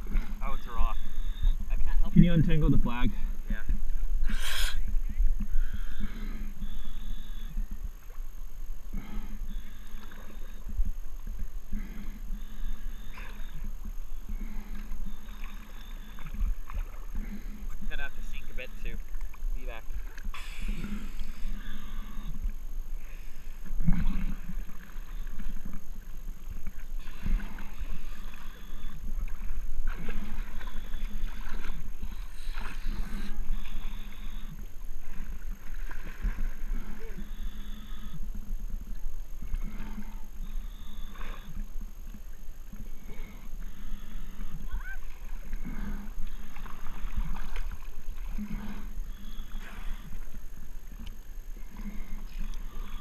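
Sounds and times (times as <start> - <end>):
water sloshing and splashing: 7.5 - 37.4, 38.3 - 53.0.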